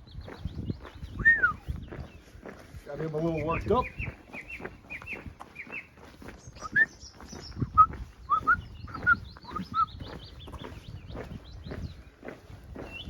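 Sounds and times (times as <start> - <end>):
high bird chirps: 0.0 - 13.0
soft footsteps: 0.0 - 13.0.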